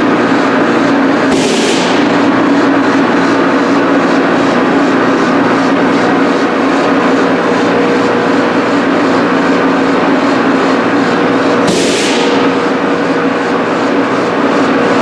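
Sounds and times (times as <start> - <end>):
loud air and fan noise: 0.0 - 15.0.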